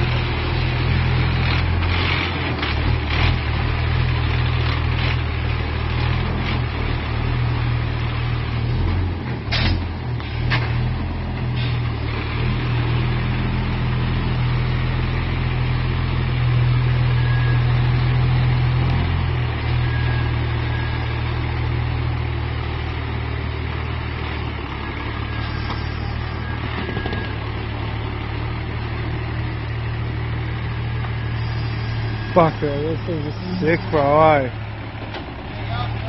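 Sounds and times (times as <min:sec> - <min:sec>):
truck engine at low revs: 0:00.0 - 0:36.0.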